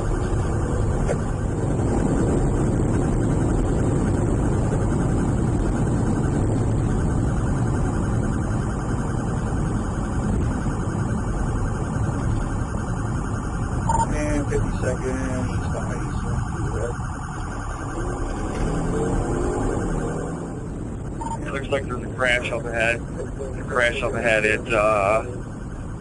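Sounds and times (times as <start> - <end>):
car engine driving fast: 0.0 - 26.0
road noise: 0.0 - 26.0.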